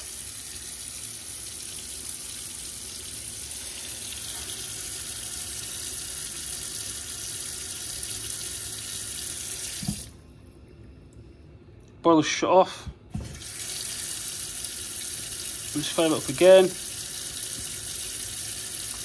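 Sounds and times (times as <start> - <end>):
tap water running into sink: 0.0 - 10.1, 13.1 - 19.0.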